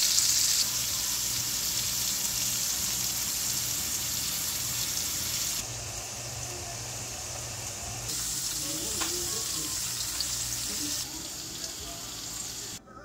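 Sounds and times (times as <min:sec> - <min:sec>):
vegetables sizzling in a frying pan: 0:00.0 - 0:12.8.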